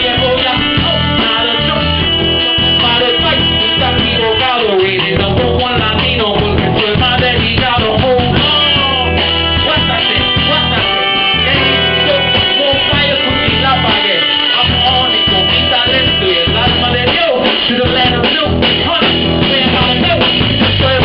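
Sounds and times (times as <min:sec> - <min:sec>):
trombone: 0:00.0 - 0:06.4, 0:08.3 - 0:21.0
trumpet: 0:00.0 - 0:06.4, 0:07.2 - 0:21.0
person singing: 0:00.0 - 0:21.0.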